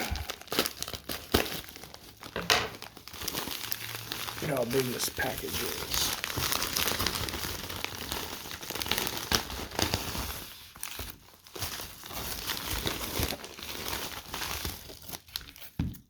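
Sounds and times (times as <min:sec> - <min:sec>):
package wrapping crinkling and rustling: 0:00.0 - 0:16.0.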